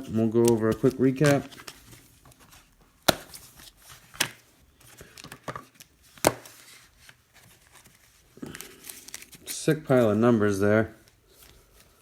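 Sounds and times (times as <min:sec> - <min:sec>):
plastic sleeves crinkling: 0:00.0 - 0:10.3.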